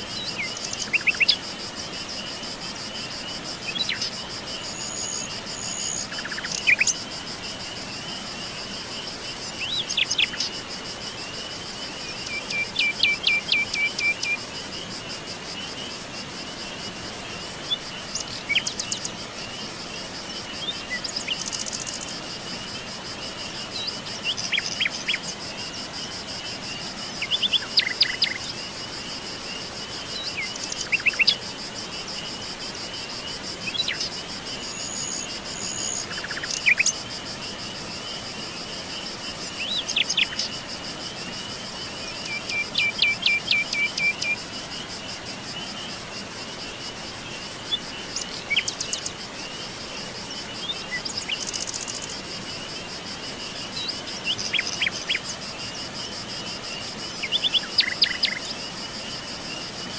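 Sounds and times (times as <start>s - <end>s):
pulsing insect trill: 0.0s - 59.9s.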